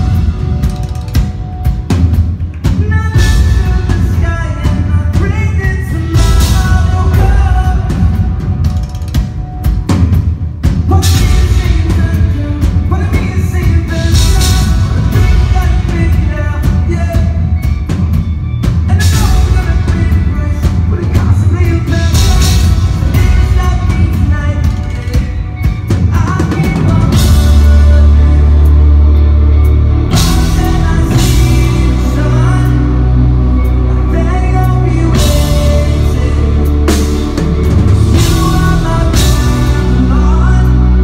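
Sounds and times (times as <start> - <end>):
rock band playing live: 0.0 - 41.0
person singing: 2.6 - 9.4, 10.7 - 41.0.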